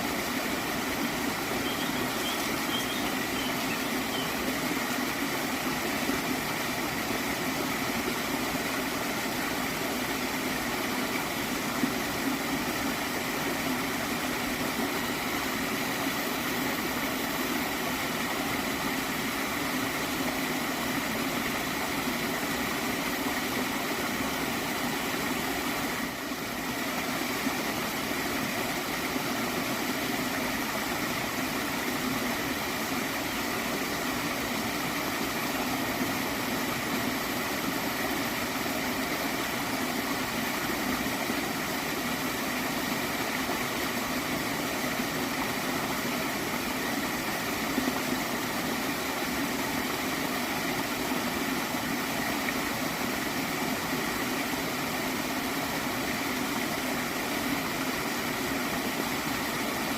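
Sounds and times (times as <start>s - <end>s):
stream gurgling: 0.0s - 59.9s.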